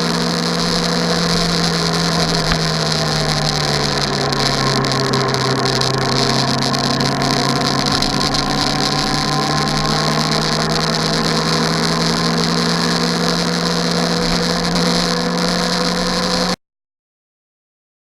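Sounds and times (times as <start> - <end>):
constant hiss: 0.0 - 16.6
engine drone: 0.0 - 16.6.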